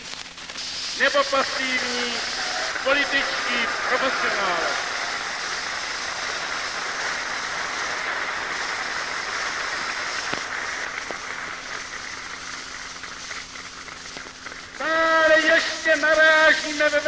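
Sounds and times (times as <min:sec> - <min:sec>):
faint steady hum: 0:00.0 - 0:17.0
recording hiss: 0:00.0 - 0:17.0
crowd applauding: 0:01.0 - 0:17.0.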